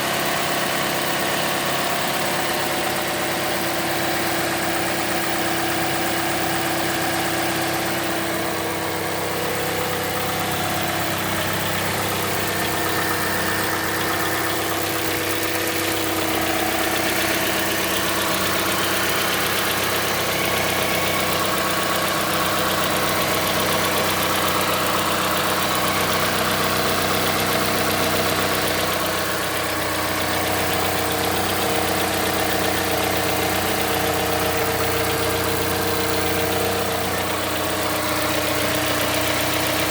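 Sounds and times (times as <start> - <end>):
car engine idling: 0.0 - 39.9
engine knock: 0.0 - 39.9.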